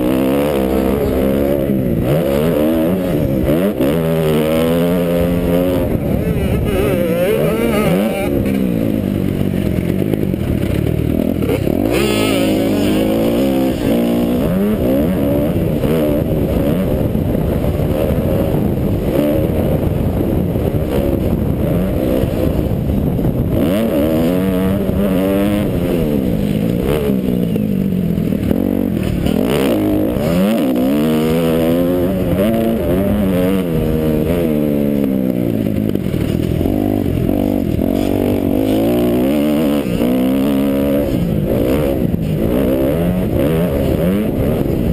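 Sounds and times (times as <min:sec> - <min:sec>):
motocross engine revving hard: 0:00.0 - 0:44.9.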